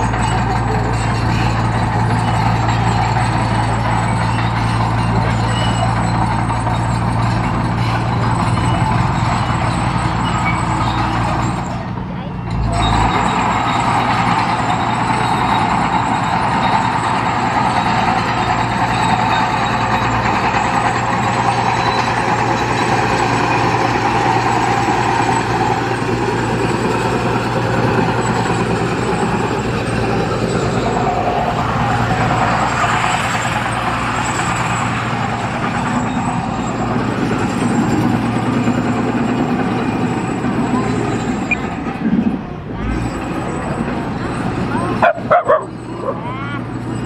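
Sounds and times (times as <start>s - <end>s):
heavy diesel machinery running: 0.0s - 47.0s.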